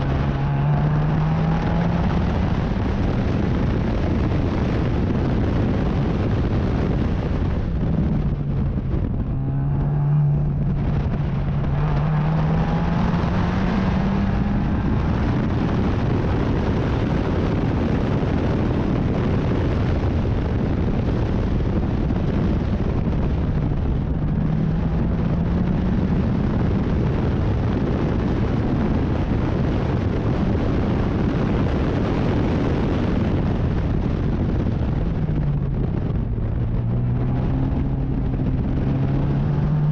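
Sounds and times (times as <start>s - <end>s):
dense steady rushing noise: 0.0s - 39.9s
race car engine running hard: 0.0s - 39.9s.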